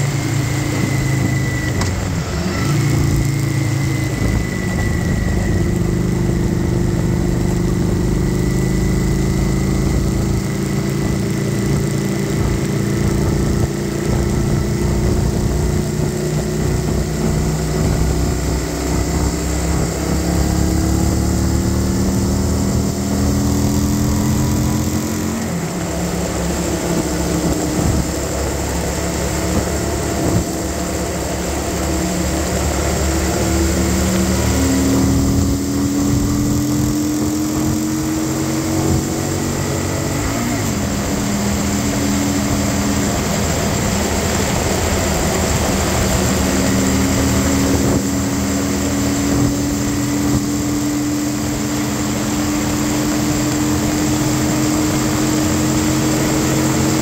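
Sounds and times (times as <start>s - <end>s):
motorcycle engine at highway speed: 0.0s - 57.0s
wind and road noise: 0.0s - 57.0s.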